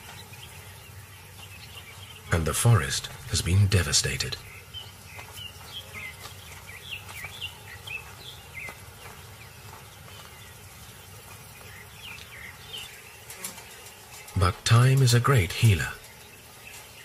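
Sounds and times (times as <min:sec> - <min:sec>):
birds chirping: 0:00.0 - 0:17.0
steady outdoor hiss: 0:00.0 - 0:17.0.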